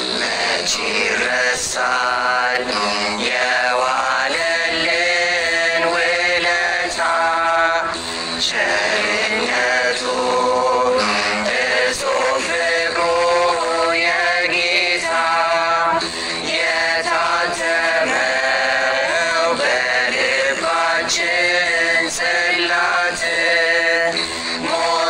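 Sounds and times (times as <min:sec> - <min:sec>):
person chanting a spiritual song: 0:00.0 - 0:25.0.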